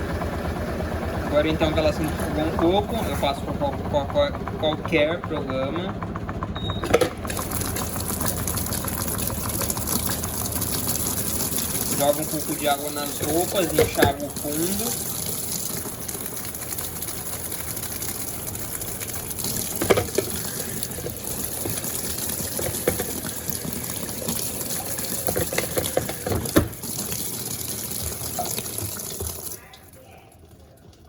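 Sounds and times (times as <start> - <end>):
water gushing into washing machine: 0.0 - 31.0.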